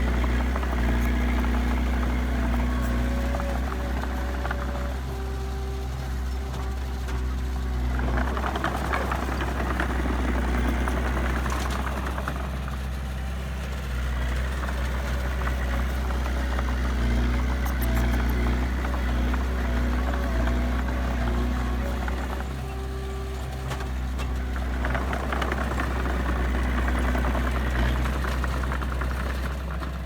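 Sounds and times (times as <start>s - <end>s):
heavy diesel engine humming: 0.0s - 30.0s.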